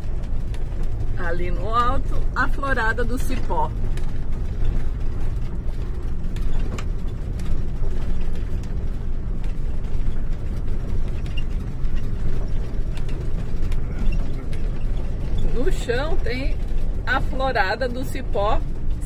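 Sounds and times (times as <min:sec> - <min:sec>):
vehicle interior rumble: 0:00.0 - 0:19.0
vehicle rattles and clicks: 0:00.0 - 0:19.0.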